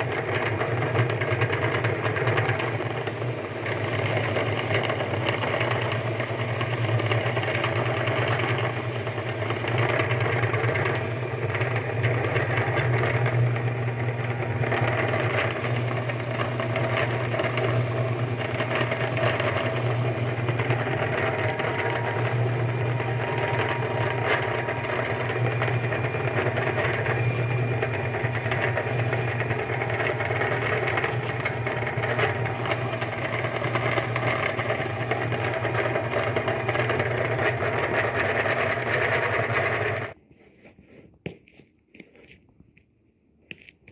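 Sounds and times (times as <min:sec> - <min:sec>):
meat grinder motor humming: 0:00.0 - 0:40.2.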